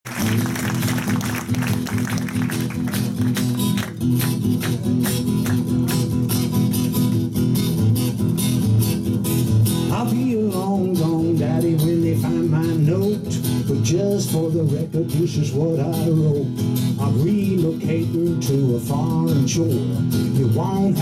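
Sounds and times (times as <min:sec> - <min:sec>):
acoustic guitar strumming: 0:00.2 - 0:21.0.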